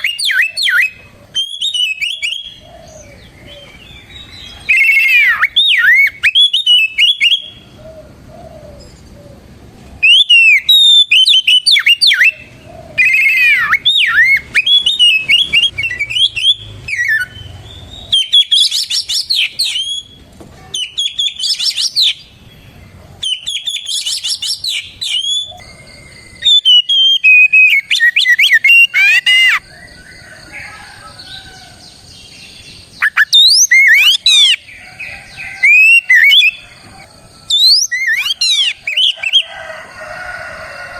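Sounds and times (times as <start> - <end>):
bird singing whistles and chirps: 0.0 - 7.6, 10.0 - 22.6, 23.2 - 39.5.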